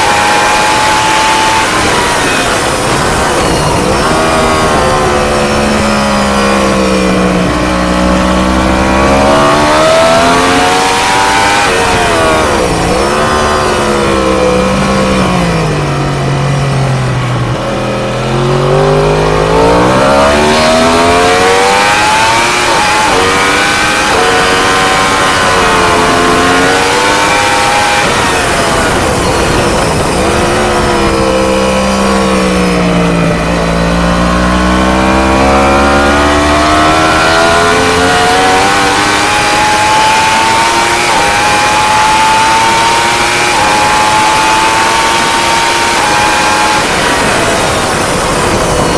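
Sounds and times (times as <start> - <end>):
motorcycle engine revving: 0.0 - 48.9
wind rush: 0.0 - 48.9.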